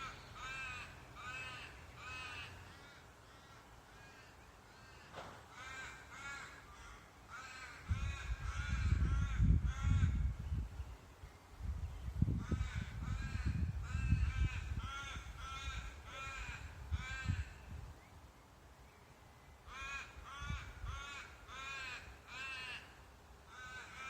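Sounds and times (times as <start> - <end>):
crow cawing: 0.0 - 10.3, 12.4 - 17.6, 19.7 - 24.0.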